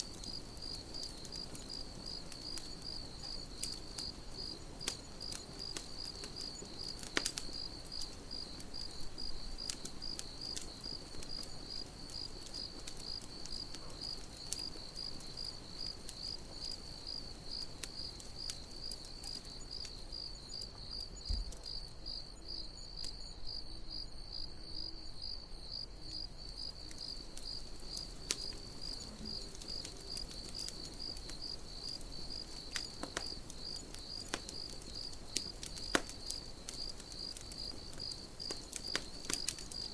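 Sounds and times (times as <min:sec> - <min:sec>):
campfire crackling: 0:00.0 - 0:39.9
cricket chirping: 0:00.0 - 0:39.9.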